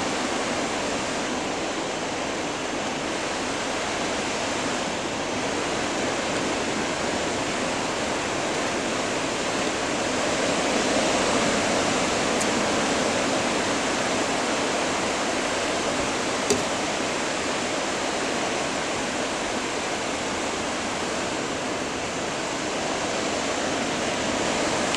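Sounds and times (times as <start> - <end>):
ocean surf breaking: 0.0 - 24.9.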